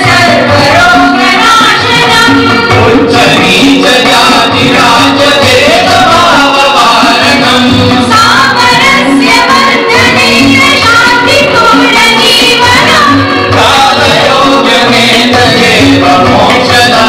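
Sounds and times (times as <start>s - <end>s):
group of people singing: 0.0s - 17.0s
tabla: 0.0s - 17.0s.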